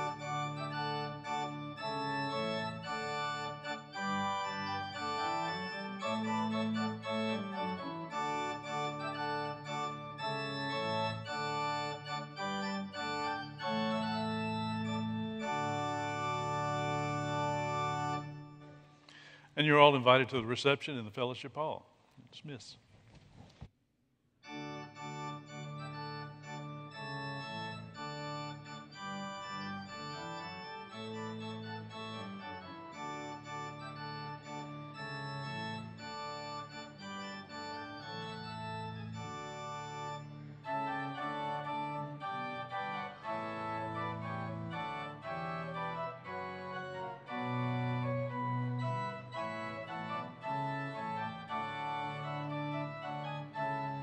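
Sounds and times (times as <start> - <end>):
church organ playing chords: 0.0 - 21.7, 24.4 - 54.0.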